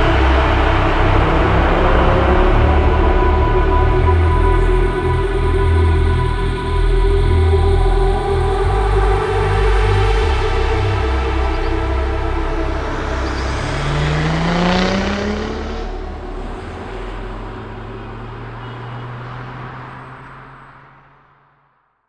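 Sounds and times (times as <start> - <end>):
car engine accelerating: 0.0 - 21.6.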